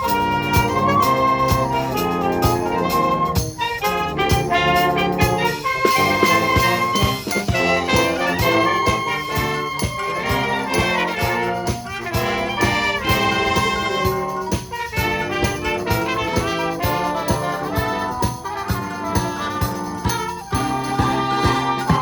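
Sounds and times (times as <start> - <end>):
drum beat: 0.0 - 22.0
sleigh bells shaking: 0.0 - 22.0
trumpets and trombones: 0.0 - 22.0
woodwinds: 0.0 - 22.0.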